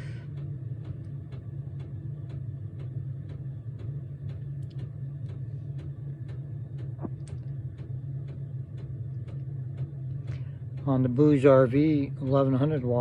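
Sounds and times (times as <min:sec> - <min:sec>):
air heater humming: 0:00.0 - 0:13.0.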